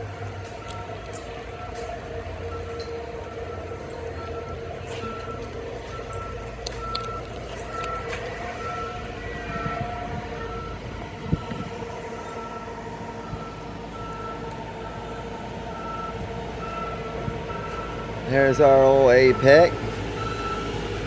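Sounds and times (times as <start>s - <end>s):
back-up alarm beeping: 0.0s - 21.0s
large vehicle engine running: 0.0s - 21.0s.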